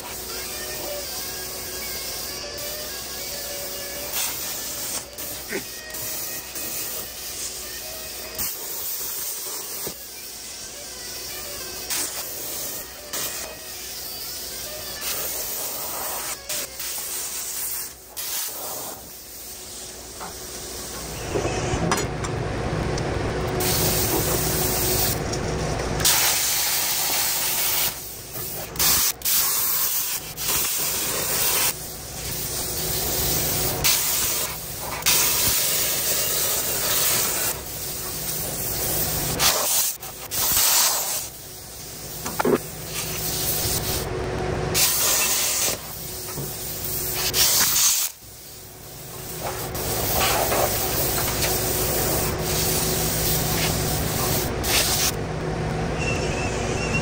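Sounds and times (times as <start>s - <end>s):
plasma cutter hissing: 0.0s - 21.8s, 23.6s - 25.2s, 26.0s - 44.1s, 44.7s - 55.2s.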